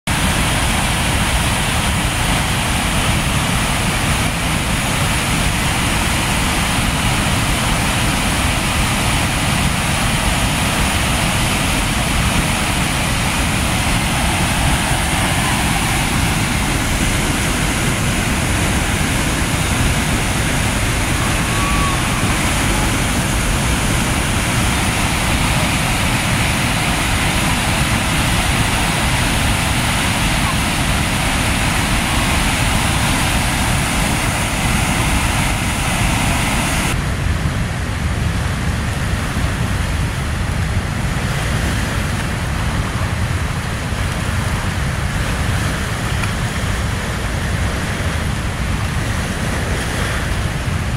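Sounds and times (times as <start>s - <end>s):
water rushing over dam spillway: 0.0s - 50.9s.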